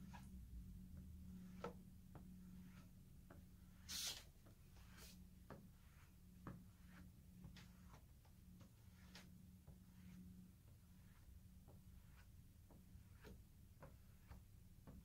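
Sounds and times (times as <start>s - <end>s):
low steady hum: 0.0s - 15.0s
potter's rib smoothing clay: 1.0s - 15.0s.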